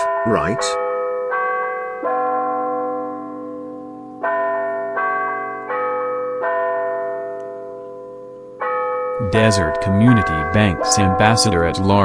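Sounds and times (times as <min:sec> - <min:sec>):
bell-like chimes ringing: 0:00.0 - 0:12.0.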